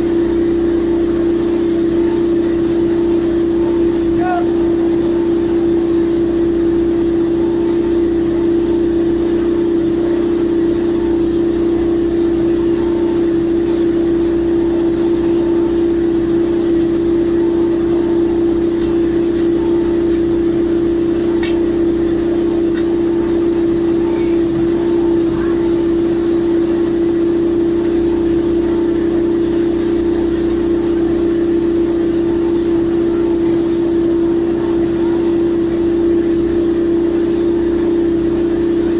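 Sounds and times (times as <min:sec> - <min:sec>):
pile driving machinery humming: 0:00.0 - 0:38.9.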